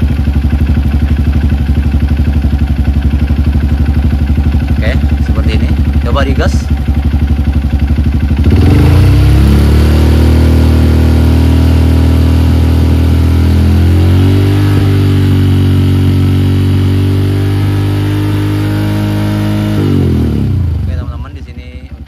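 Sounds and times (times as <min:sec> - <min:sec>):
motorcycle engine at raised revs: 0:00.0 - 0:22.0.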